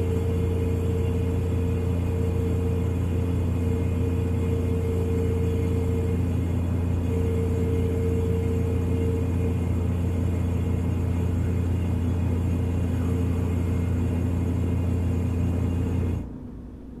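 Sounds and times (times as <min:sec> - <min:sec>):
refrigerator humming: 0:00.0 - 0:16.5.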